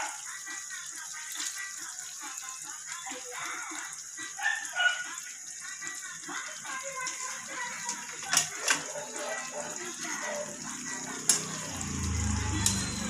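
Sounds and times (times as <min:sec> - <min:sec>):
stew bubbling in a pot: 0:00.0 - 0:13.0.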